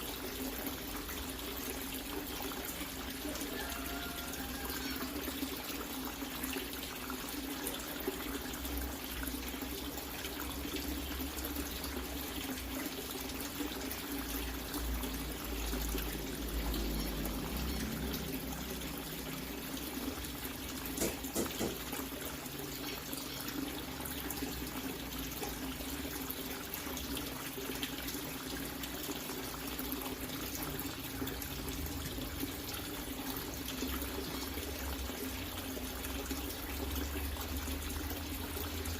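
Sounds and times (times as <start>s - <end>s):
water splashing into a tank: 0.0s - 38.9s.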